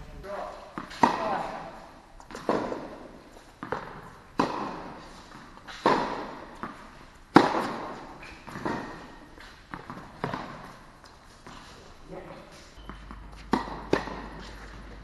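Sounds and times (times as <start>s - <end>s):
tennis ball bouncing: 0.0s - 11.6s, 12.8s - 15.0s
racket hitting tennis ball: 0.0s - 11.9s, 13.1s - 15.0s.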